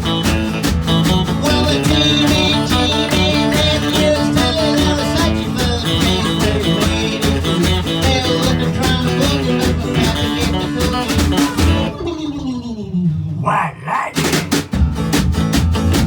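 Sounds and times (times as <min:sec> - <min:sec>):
country band with guitars and drums: 0:00.0 - 0:12.2, 0:14.2 - 0:16.0.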